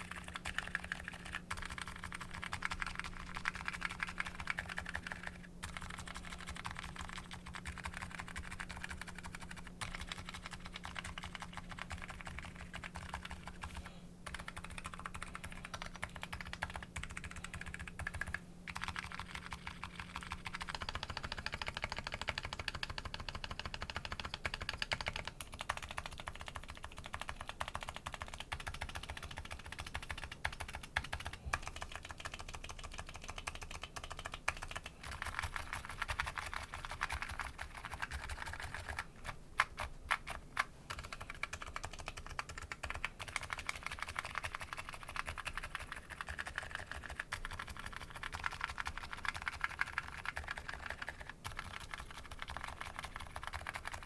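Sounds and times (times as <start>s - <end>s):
keyboard typing: 0.0s - 54.0s.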